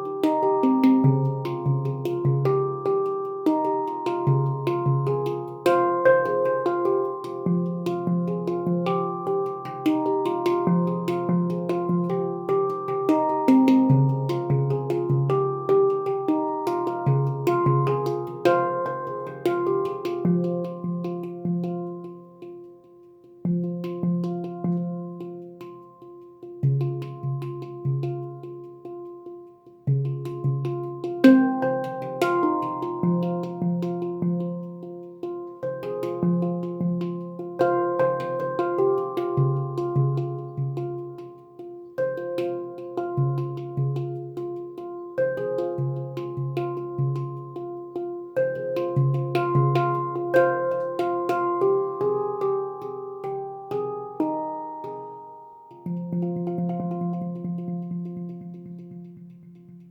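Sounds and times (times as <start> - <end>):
handpan melody: 0.0 - 59.9.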